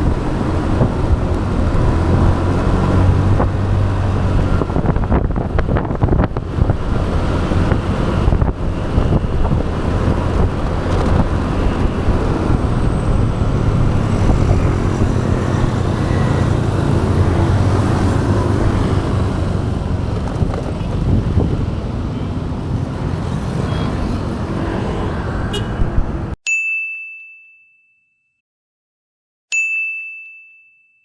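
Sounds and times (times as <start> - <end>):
motorbike engine: 0.0 - 26.3
wind on microphone: 0.0 - 26.4.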